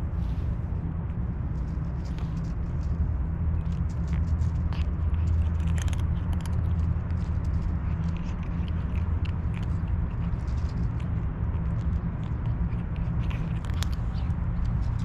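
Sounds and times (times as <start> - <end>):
cat crunching dry kibble: 0.0 - 15.0
steady low rumble: 0.0 - 15.0.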